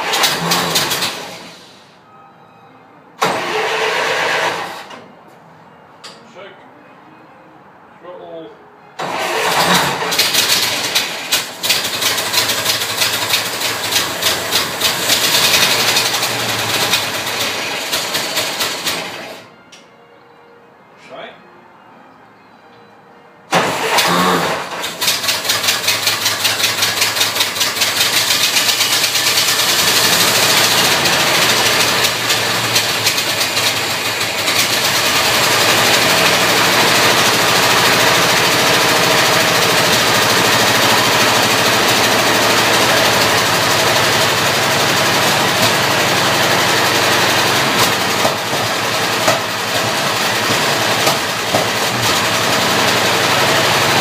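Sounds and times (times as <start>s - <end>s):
old car engine starting and running: 0.0s - 1.9s, 3.2s - 5.1s, 9.0s - 19.5s, 23.5s - 54.0s.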